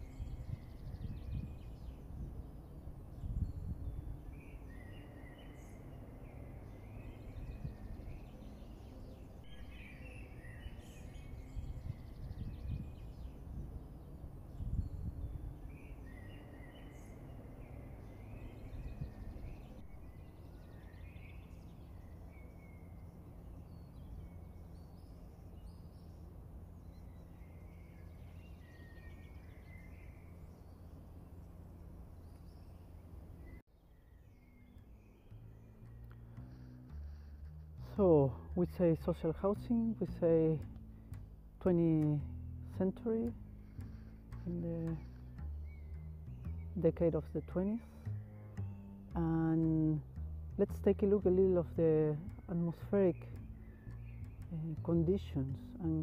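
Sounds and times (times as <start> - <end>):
low outdoor rumble: 0.0 - 56.0
songbird warbling: 0.0 - 56.0.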